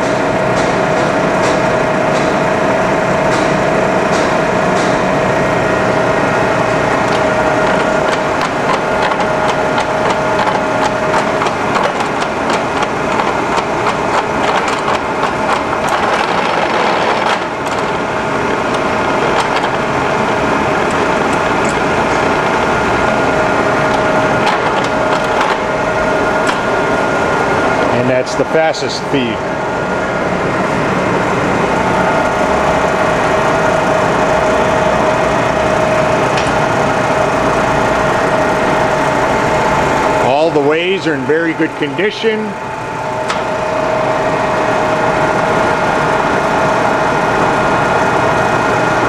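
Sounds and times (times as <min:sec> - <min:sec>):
milling machine gear whirring: 0:00.0 - 0:49.0.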